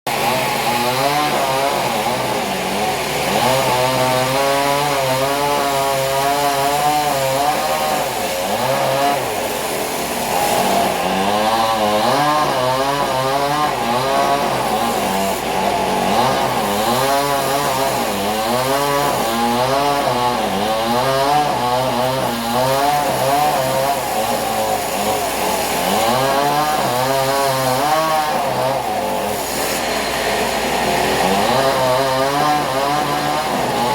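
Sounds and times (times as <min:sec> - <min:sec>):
saw engine running: 0:00.1 - 0:33.9
sawmill saw cutting wood: 0:00.1 - 0:33.9.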